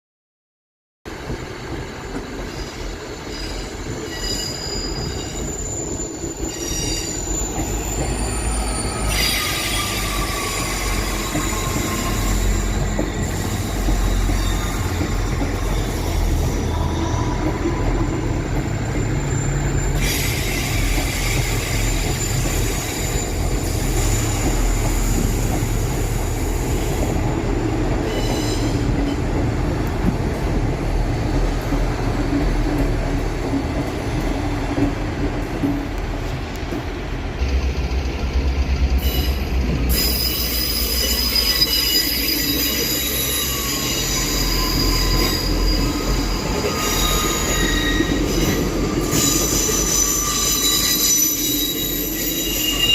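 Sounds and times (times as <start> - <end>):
train wheels squealing on rails: 1.2 - 52.9
diesel train engine rumble: 4.9 - 51.2.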